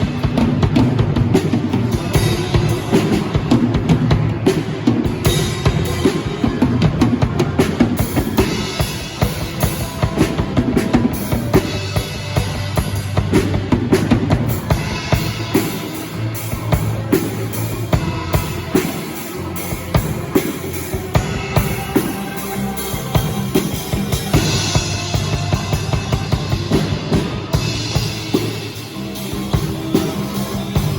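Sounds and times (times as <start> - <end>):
bass line: 0.0 - 30.9
live band playing: 0.0 - 30.9.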